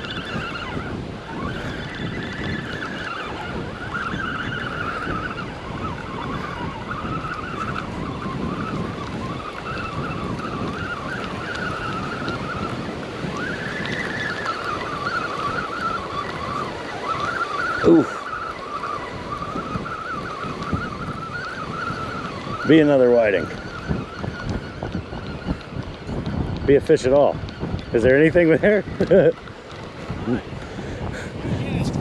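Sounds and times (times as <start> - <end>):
fishing reel gears whining: 0.0 - 32.0
surf: 0.0 - 32.0
wind: 0.0 - 32.0.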